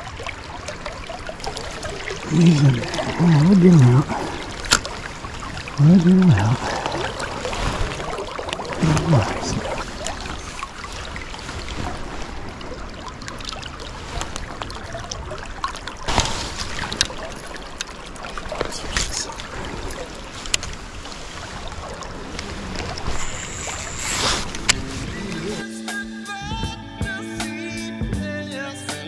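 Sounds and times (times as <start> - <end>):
creek water running: 0.0 - 25.8.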